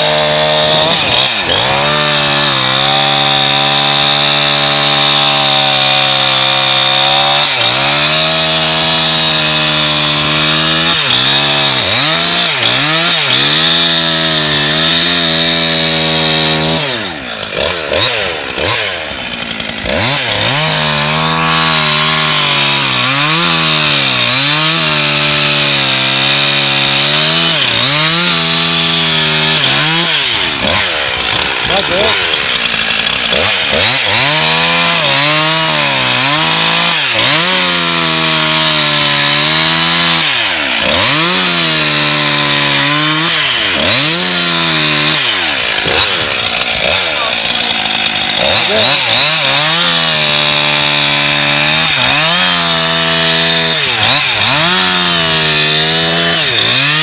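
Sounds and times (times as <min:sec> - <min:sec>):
chainsaw cutting ice: 0:00.0 - 0:57.0.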